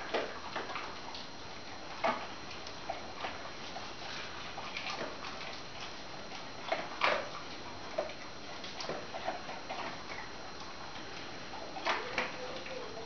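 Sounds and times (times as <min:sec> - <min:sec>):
dog crunching kibble: 0:00.0 - 0:13.0.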